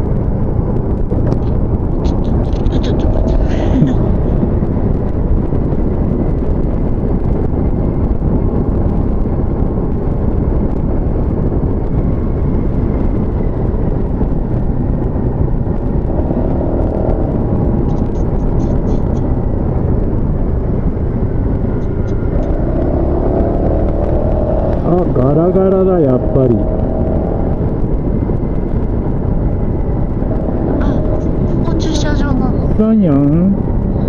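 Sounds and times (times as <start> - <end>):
wind rush on microphone: 0.0 - 34.0.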